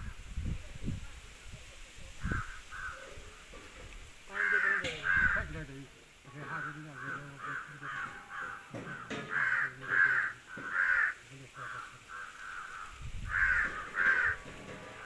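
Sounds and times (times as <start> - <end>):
crows cawing: 2.2 - 15.0.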